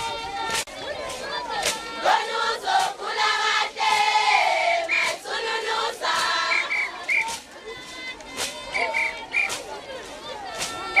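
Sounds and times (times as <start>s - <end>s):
group singing a chant: 0.0s - 11.0s.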